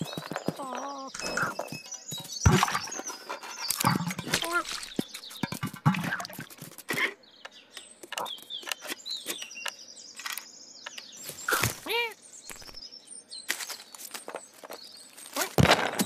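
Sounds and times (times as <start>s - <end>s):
bird chirps: 0.0s - 15.6s.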